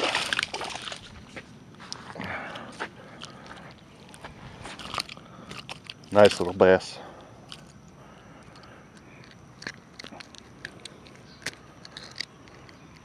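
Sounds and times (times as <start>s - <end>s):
hands handling fish and fishing line: 0.2s - 13.0s.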